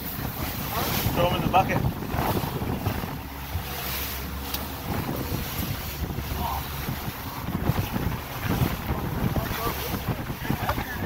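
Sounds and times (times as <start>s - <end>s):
outboard motor running: 0.0s - 11.0s
water rushing along hull: 0.0s - 11.0s
wind on microphone: 0.0s - 11.0s.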